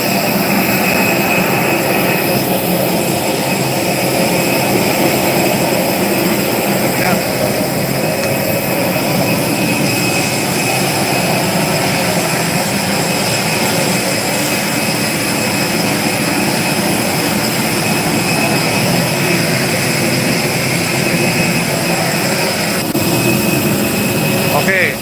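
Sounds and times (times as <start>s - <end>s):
aircraft turbine rushing: 0.0s - 25.0s
high steady whine: 0.0s - 25.0s.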